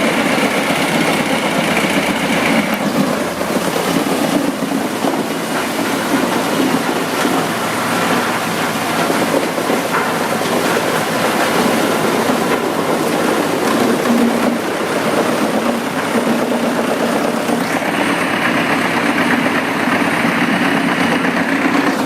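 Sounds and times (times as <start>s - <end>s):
wood chipper running: 0.0s - 22.0s.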